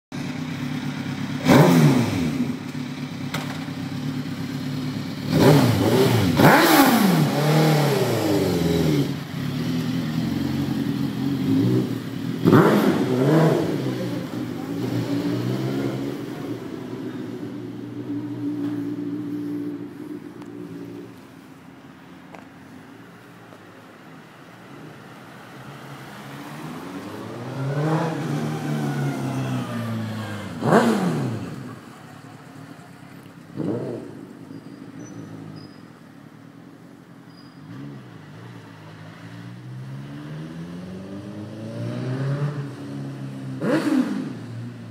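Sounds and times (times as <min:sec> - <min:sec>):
motorcycle engine revving: 0:00.2 - 0:21.2, 0:26.3 - 0:32.3, 0:33.5 - 0:35.7, 0:37.7 - 0:44.9.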